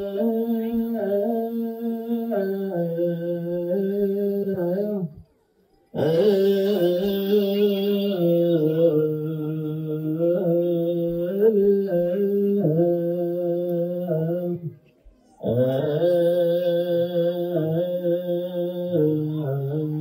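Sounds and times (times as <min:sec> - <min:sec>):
liturgical chant singing: 0:00.0 - 0:20.0.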